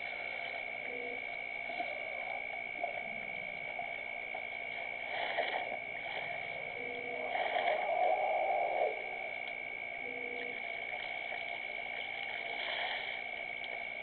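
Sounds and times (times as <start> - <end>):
high-pitched whine: 0.0 - 12.6
night ambience hiss: 0.0 - 14.0.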